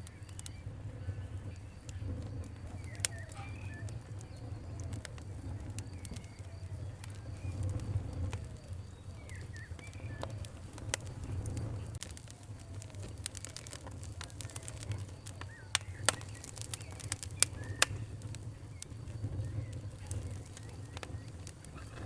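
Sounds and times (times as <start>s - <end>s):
faint bird chirps: 0.0s - 22.0s
steady low rumble: 0.0s - 22.0s
wood fire crackling and popping: 0.0s - 22.0s.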